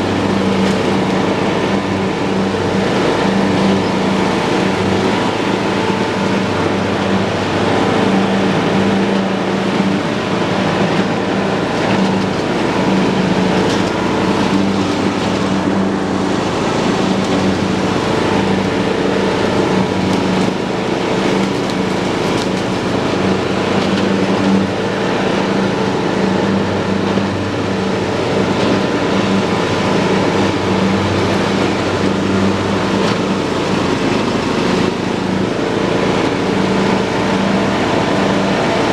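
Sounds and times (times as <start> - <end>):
lawn tractor engine running: 0.0 - 38.9
mower cutting grass: 0.0 - 38.9.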